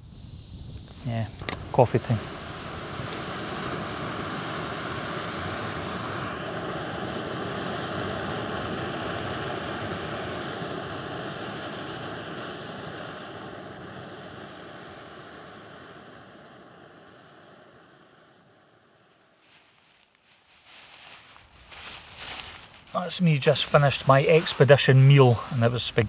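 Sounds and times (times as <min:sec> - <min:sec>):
gas stove burner hissing: 0:00.0 - 0:26.0.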